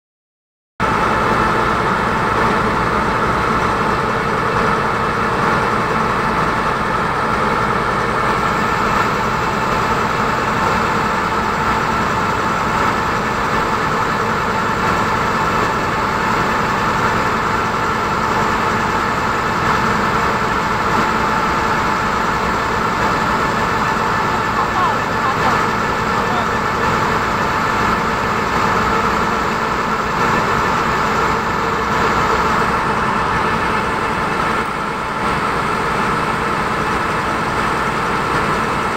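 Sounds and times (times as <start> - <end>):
boat engine drone: 0.8 - 38.9.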